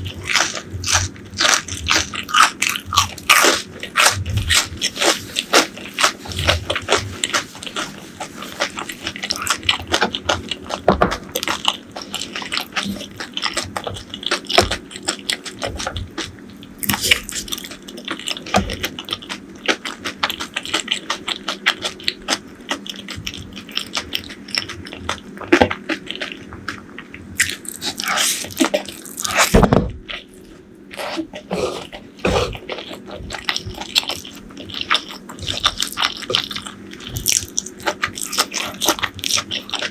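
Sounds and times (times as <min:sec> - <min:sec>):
biting and chewing food: 0:00.0 - 0:39.9.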